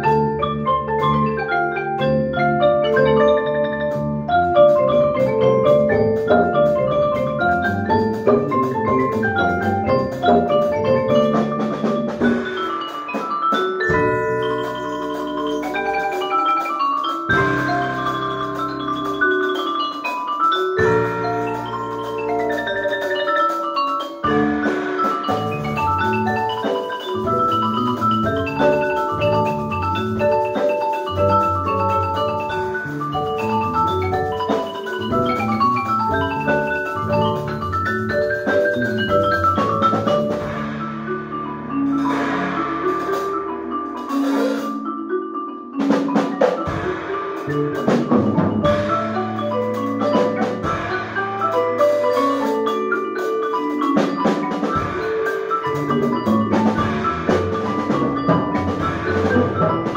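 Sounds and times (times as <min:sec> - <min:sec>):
marimba ensemble playing: 0:00.0 - 0:59.9.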